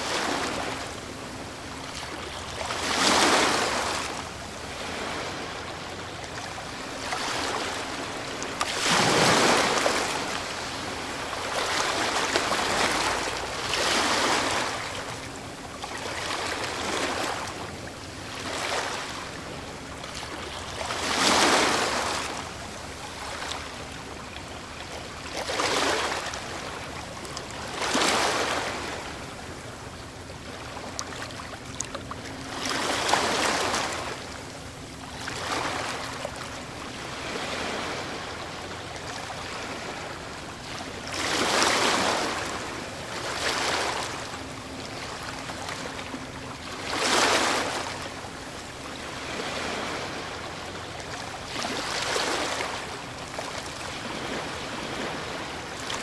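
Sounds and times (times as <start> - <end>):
ocean waves crashing on shore: 0.0 - 27.0, 27.6 - 29.8, 32.3 - 34.4, 35.0 - 56.0.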